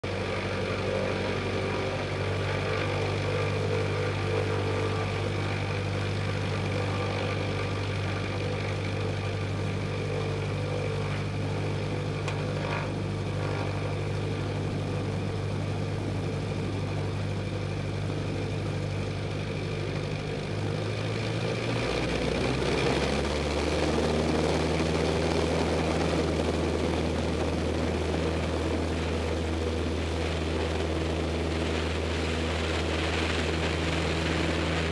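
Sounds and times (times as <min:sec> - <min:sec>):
propeller airplane engine: 0:00.0 - 0:34.9.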